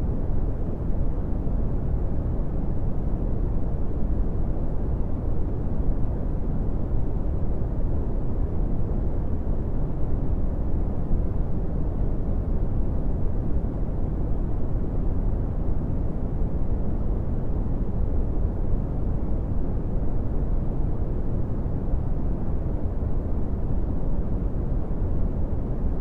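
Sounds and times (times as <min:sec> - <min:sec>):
brown noise rumbling hiss: 0:00.0 - 0:26.0.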